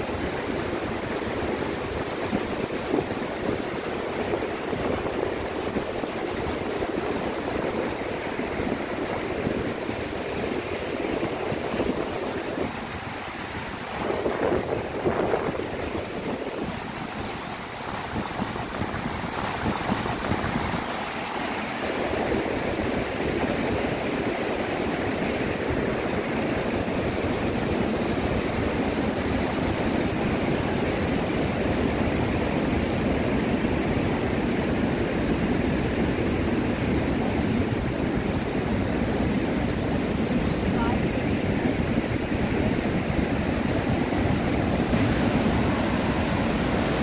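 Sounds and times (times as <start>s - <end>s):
waterfall roaring: 0.0s - 47.0s.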